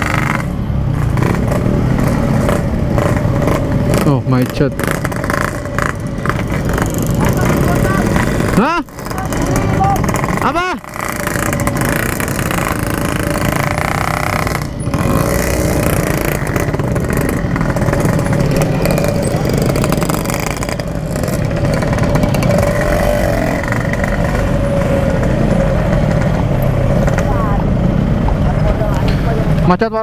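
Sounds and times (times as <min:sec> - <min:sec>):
two-stroke engine idling: 0:01.4 - 0:29.8.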